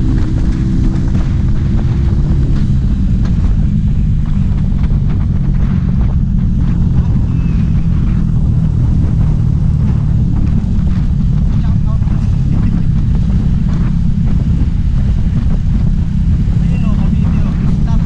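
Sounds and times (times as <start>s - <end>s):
scooter engine droning: 0.0s - 18.0s
wind buffeting microphone: 0.0s - 18.0s.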